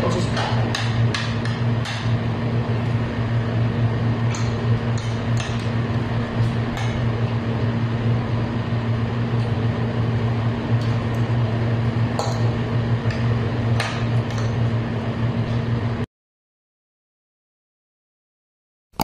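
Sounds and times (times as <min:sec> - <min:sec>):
low electrical hum: 0:00.0 - 0:16.1.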